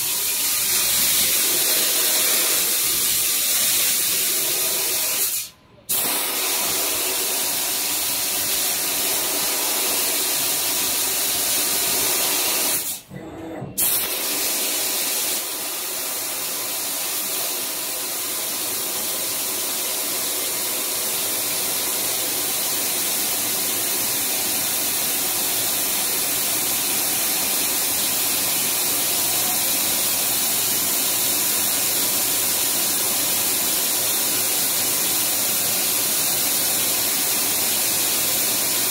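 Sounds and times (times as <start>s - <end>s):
laser cutter gas jet hiss: 0.0s - 13.1s, 13.8s - 38.9s.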